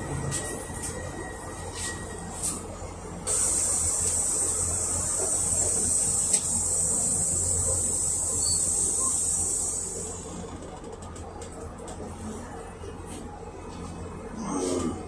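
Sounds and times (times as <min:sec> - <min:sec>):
bus engine hum: 0:00.0 - 0:15.0.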